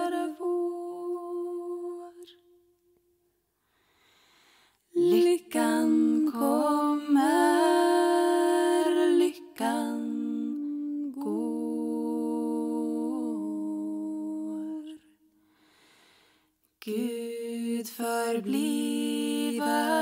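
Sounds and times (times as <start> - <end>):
women singing a cappella: 0.0 - 2.6, 4.9 - 15.2, 16.8 - 20.0.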